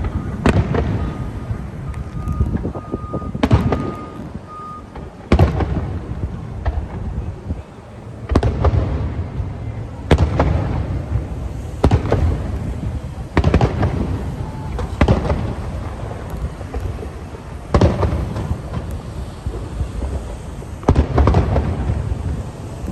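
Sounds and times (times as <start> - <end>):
continuous low rumble: 0.0 - 22.9
fireworks bangs: 0.0 - 22.9.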